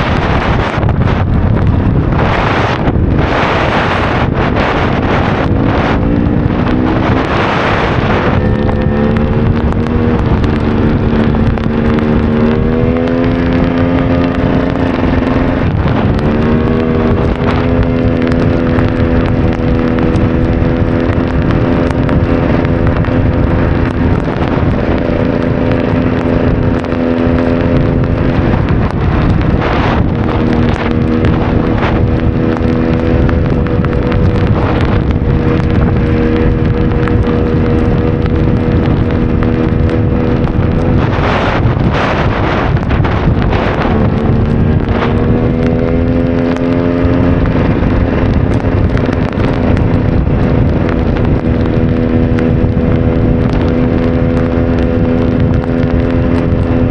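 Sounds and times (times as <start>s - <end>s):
two-stroke motorcycle engine running: 0.0s - 56.9s
wind buffeting microphone: 0.0s - 56.9s.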